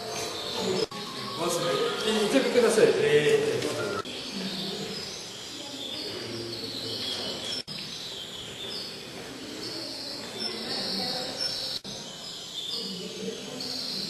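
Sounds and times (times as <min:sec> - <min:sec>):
birds and insects chirping: 0:00.0 - 0:14.0.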